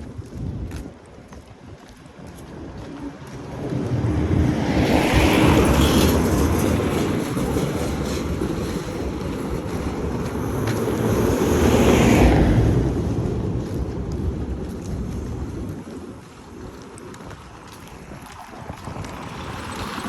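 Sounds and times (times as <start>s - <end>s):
road traffic passing close by: 2.0s - 20.0s.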